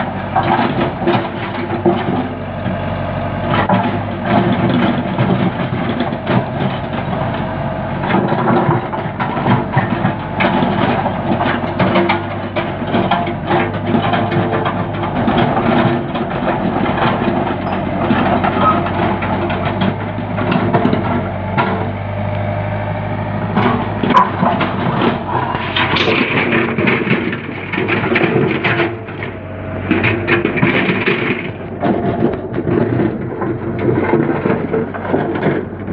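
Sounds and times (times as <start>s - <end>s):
machine knocks and clatters: 0.0s - 2.3s, 3.5s - 22.0s, 23.4s - 35.9s
diesel engine running: 0.0s - 35.9s.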